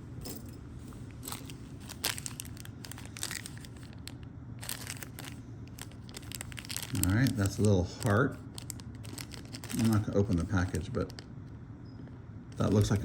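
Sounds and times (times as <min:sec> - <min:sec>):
low steady hum: 0:00.0 - 0:13.0
plastic packaging crinkling: 0:00.9 - 0:11.3, 0:12.6 - 0:13.0.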